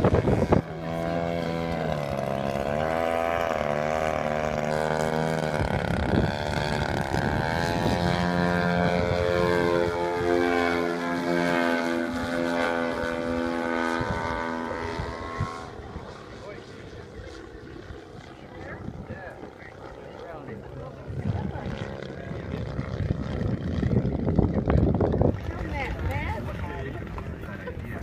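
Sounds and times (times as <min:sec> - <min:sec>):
model airplane engine and propeller: 0:00.0 - 0:28.0.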